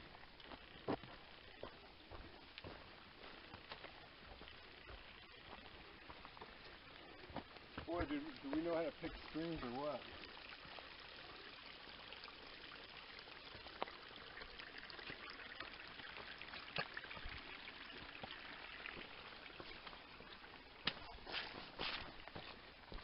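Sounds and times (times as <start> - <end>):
stream trickling over rocks: 0.0 - 23.0.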